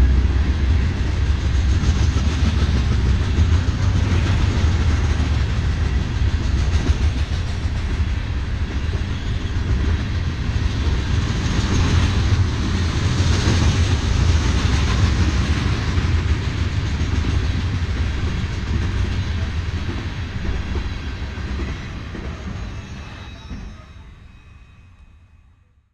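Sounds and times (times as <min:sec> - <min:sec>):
train wheels rumbling on rails: 0:00.0 - 0:25.2.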